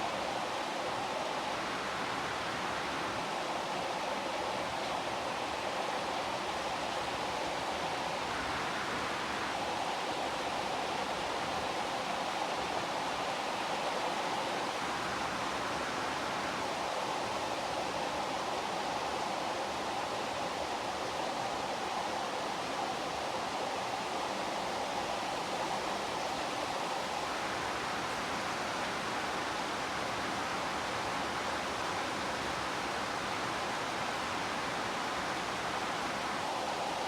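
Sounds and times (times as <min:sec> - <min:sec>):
steady heavy rain: 0:00.0 - 0:37.0.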